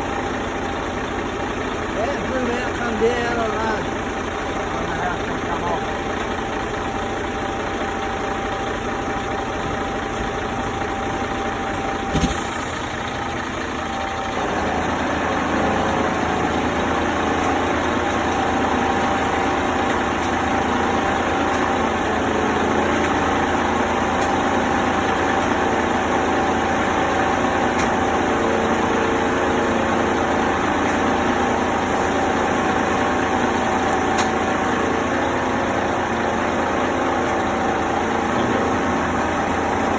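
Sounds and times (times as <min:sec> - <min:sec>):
machinery engine running: 0:00.0 - 0:39.9.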